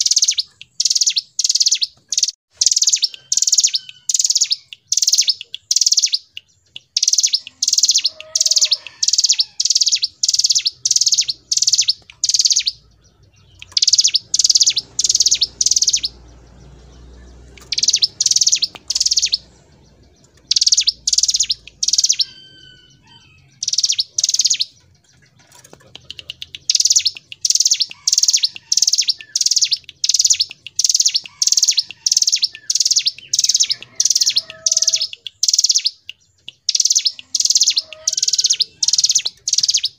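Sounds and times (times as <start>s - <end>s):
bird singing sharp high notes: 0.0s - 24.9s, 26.0s - 39.9s.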